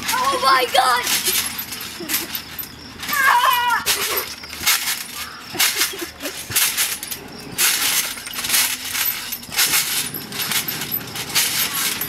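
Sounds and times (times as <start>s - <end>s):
trampoline springs jingling: 0.0s - 12.0s.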